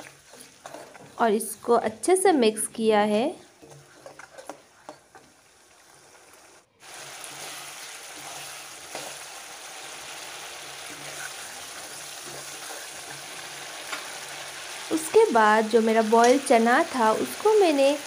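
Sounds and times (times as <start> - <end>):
food frying hiss: 3.4 - 18.0.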